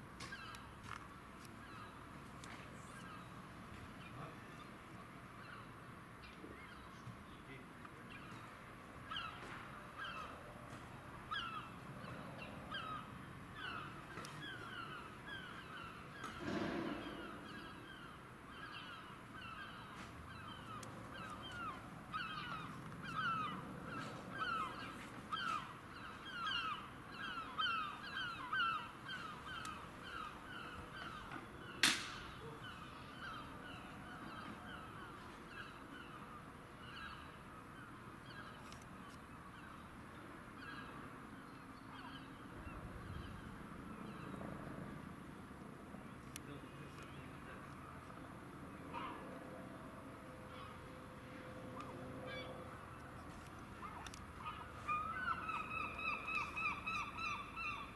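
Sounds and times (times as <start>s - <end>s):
birds calling: 0.2s - 39.9s, 46.0s - 57.9s.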